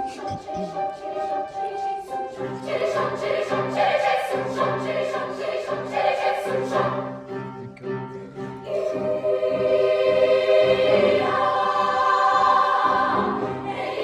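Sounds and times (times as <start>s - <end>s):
choir singing sustained chords: 0.0s - 14.0s.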